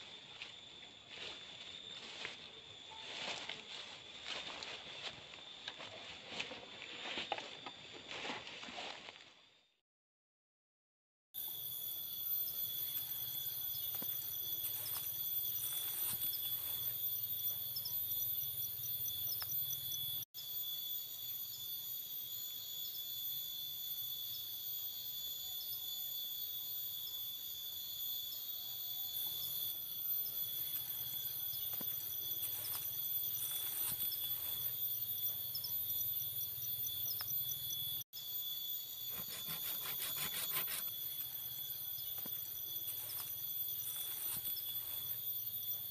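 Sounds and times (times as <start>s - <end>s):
rapid pulsing insect chirp: 0.0s - 8.2s, 11.4s - 45.9s
high-pitched insect trills: 0.0s - 9.8s, 11.4s - 45.9s.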